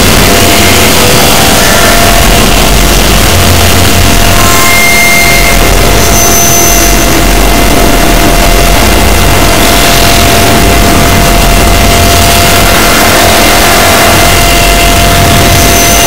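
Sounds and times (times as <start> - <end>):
loud distorted noise: 0.0 - 16.0
steady mid-pitched tone: 0.0 - 16.0.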